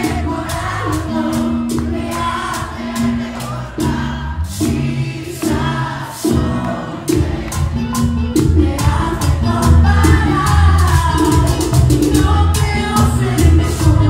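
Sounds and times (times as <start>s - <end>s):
live band playing: 0.0s - 14.0s
men singing together: 0.0s - 14.0s.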